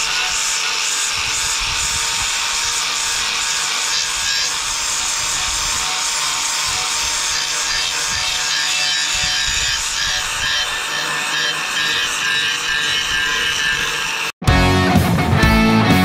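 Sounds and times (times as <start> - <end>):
sanding disc hissing on metal: 0.0 - 14.3
angle grinder motor whine: 0.0 - 14.4.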